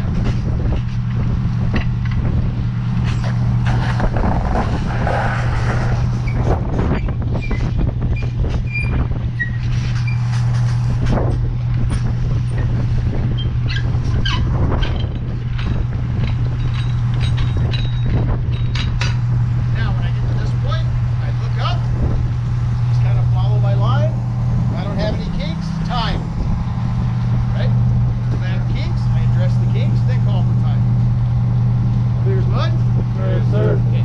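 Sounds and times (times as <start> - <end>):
diesel engine low drone: 0.0 - 34.0.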